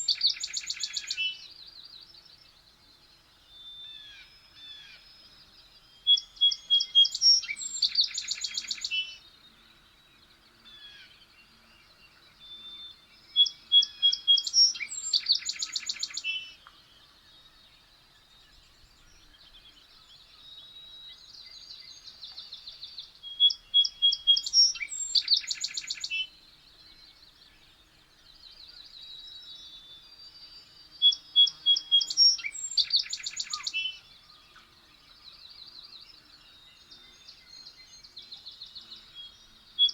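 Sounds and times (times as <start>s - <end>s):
quieter bird song: 0.0s - 39.9s
songbird song with trill: 0.0s - 39.9s.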